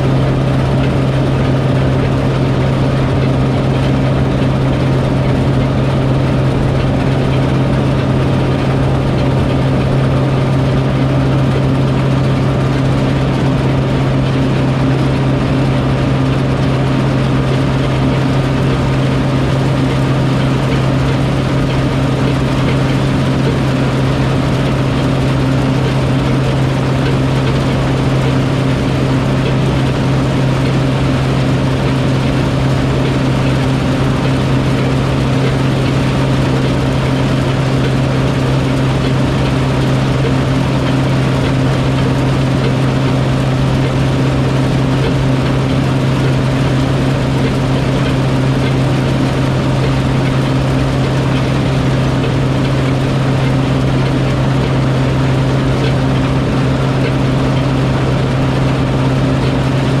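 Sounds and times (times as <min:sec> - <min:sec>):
heavy machine engine droning: 0:00.0 - 1:00.0.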